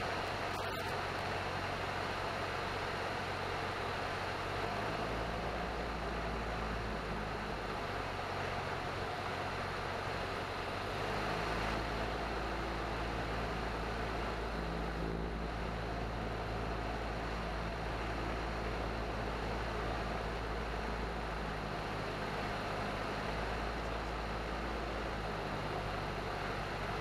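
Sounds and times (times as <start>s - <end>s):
aircraft engine and propeller: 0.0s - 27.0s.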